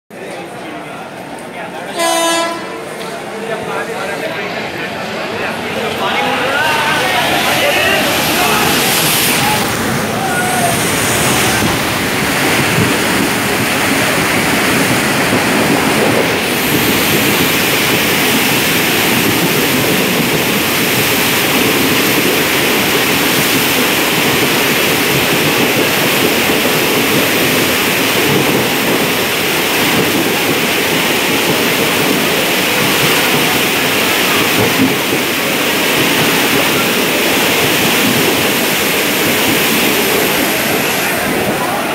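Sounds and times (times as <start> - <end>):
train rushing through water: 0.1 - 41.9
heavy rain: 0.2 - 41.9.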